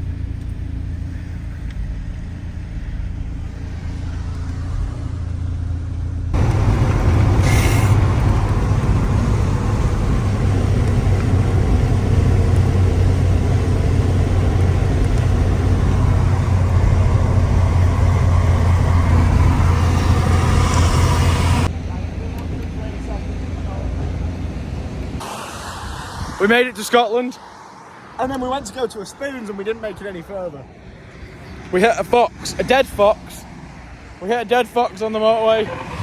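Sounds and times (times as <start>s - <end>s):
car engine and road drone: 0.0s - 36.0s.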